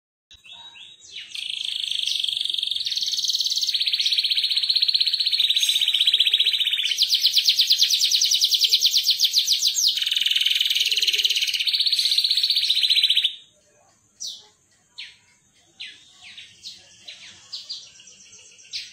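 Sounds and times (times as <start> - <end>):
canary singing rapid trills: 0.3 - 18.9.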